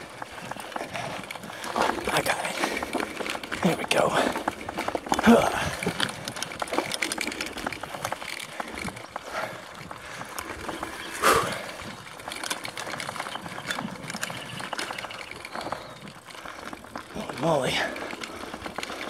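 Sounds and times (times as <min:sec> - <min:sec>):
bike rattling and clicking: 0:00.0 - 0:19.0
bike tyres on dirt: 0:00.0 - 0:19.0.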